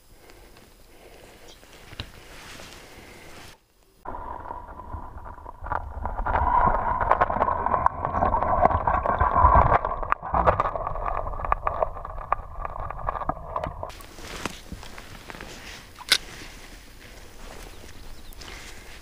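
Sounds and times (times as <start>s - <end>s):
muffled stream water gurgling: 2.2s - 19.0s.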